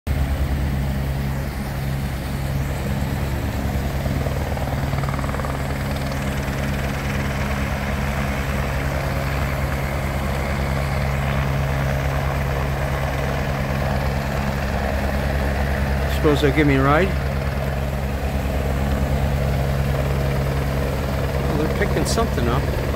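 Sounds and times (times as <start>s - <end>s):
helicopter engine drone: 0.1s - 22.9s
helicopter rotor blades beating: 0.1s - 22.9s.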